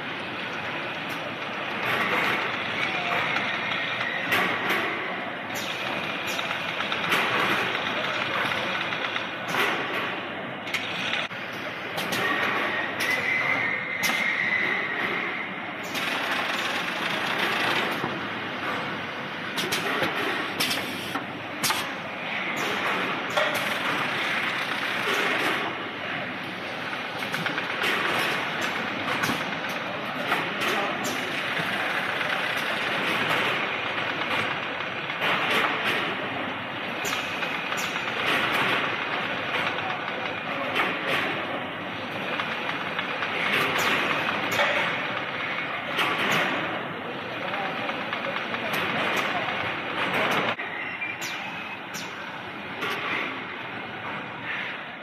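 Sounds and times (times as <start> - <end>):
machinery clatter: 0.0 - 50.6.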